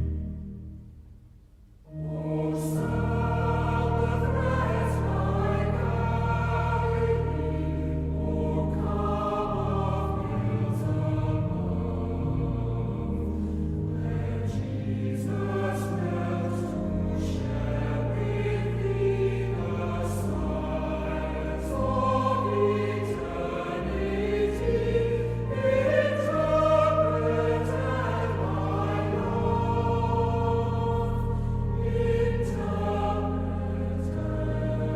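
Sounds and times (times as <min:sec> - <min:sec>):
choir singing held chords: 0:01.8 - 0:34.9.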